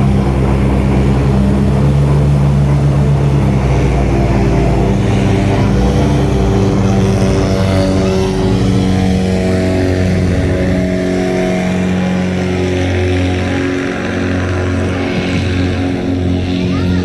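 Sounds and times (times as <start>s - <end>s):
airboat engine and propeller: 0.0s - 17.0s.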